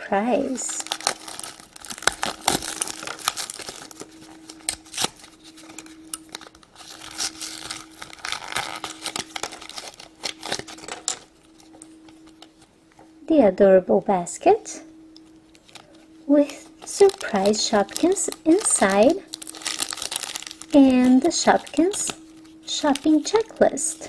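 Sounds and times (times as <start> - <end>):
packaging crinkling: 0.0 - 13.2, 15.0 - 24.0
faint steady hum: 0.0 - 24.0.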